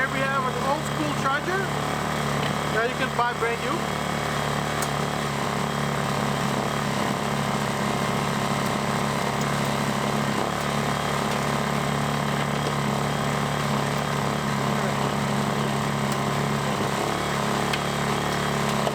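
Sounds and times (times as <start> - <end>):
generator engine running: 0.0 - 18.9.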